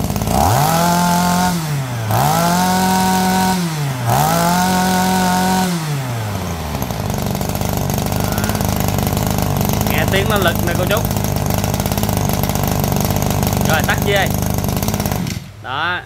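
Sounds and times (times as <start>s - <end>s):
brush cutter engine revving: 0.0s - 16.0s.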